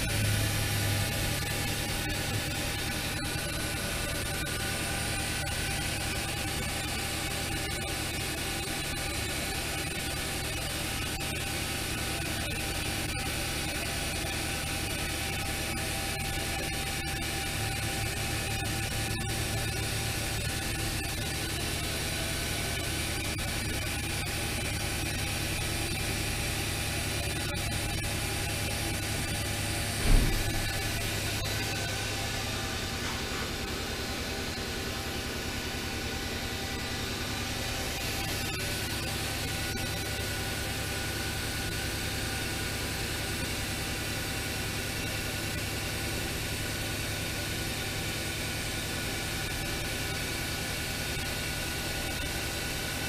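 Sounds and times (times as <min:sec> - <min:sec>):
machining center running: 0:00.0 - 0:53.0.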